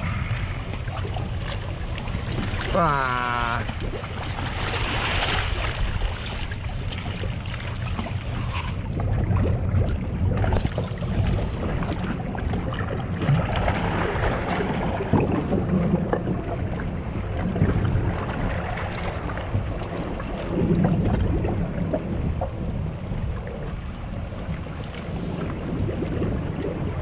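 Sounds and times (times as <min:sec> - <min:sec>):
water noise: 0:00.0 - 0:27.0
wind: 0:00.0 - 0:27.0.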